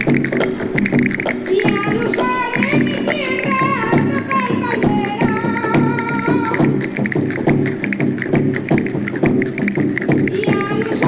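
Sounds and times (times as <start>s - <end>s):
fast percussion strikes: 0.0s - 11.0s.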